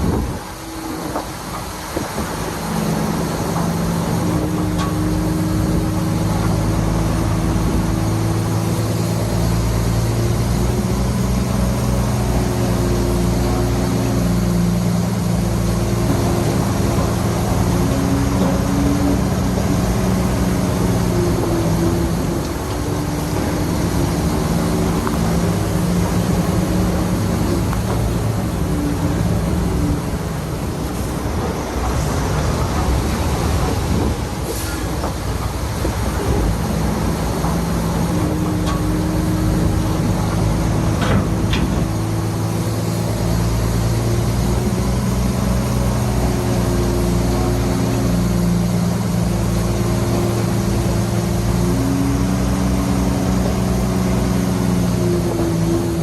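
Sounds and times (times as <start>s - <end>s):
bulldozer diesel engine running: 0.0s - 56.0s
clattering mechanical noise: 0.0s - 56.0s.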